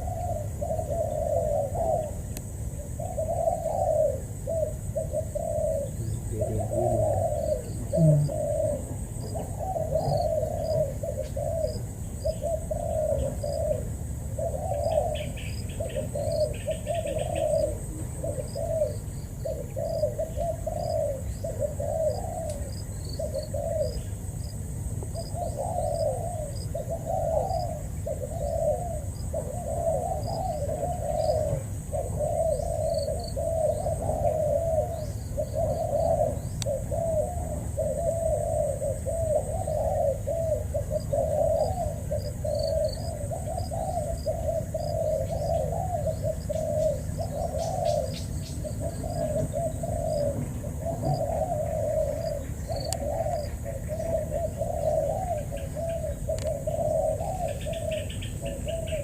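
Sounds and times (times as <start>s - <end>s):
dove cooing: 0.0s - 59.0s
small birds chirping: 0.0s - 59.0s.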